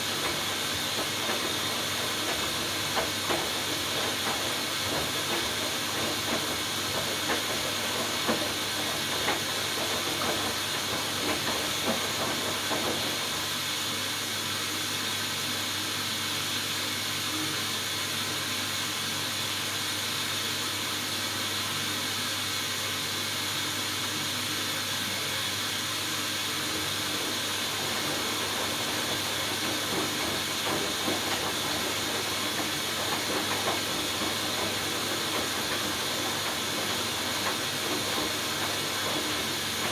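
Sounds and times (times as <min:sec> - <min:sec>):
washing machine water rushing: 0:00.0 - 0:39.9.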